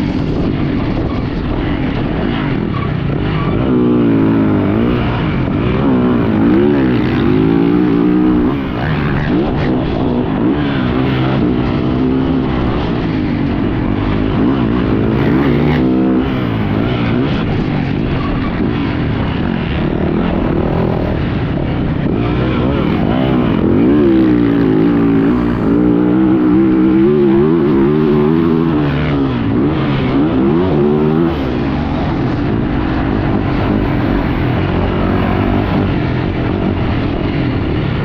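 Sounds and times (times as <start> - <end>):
motocross bike engine revving: 0.0 - 38.0.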